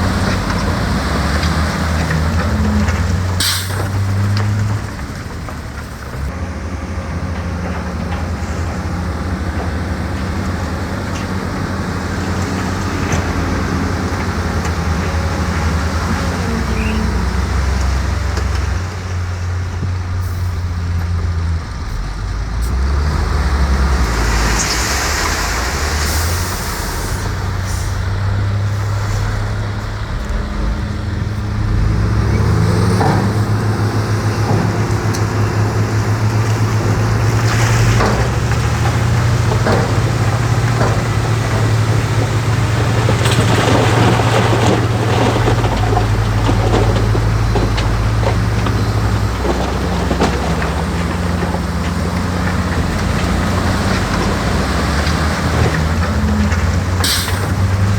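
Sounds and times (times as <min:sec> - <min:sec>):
heavy diesel engine under load: 0:00.0 - 0:57.9.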